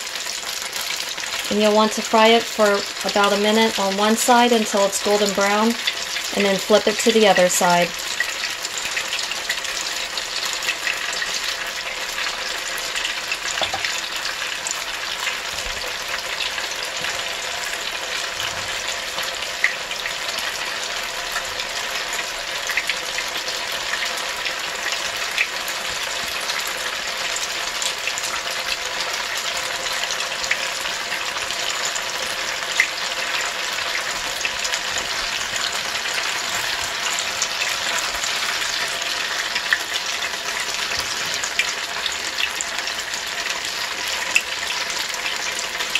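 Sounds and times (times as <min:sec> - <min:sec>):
batter sizzling in oil: 0:00.0 - 0:45.9.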